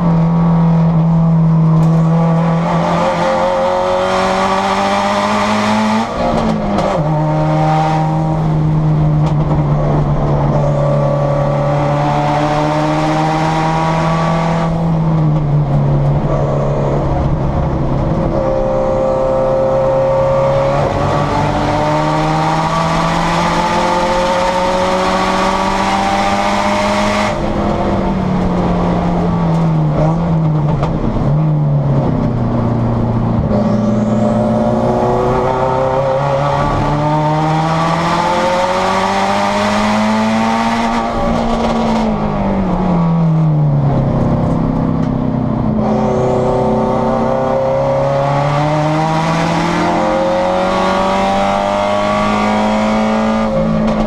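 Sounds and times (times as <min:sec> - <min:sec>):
race car engine at hard throttle: 0:00.0 - 0:54.0.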